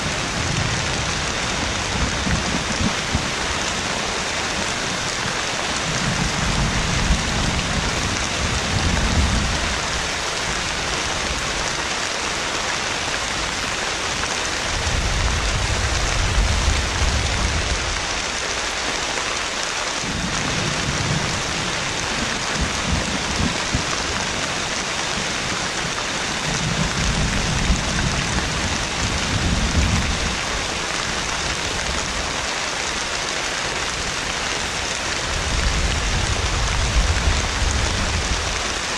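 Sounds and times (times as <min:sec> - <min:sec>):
thunder rumbling: 0:00.0 - 0:11.8, 0:13.3 - 0:18.2, 0:20.0 - 0:32.4, 0:33.9 - 0:38.9
heavy rain falling: 0:00.0 - 0:38.9.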